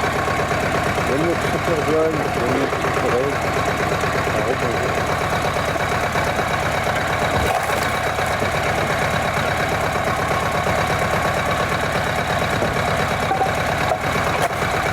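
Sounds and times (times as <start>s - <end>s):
log splitter engine running: 0.0s - 14.9s.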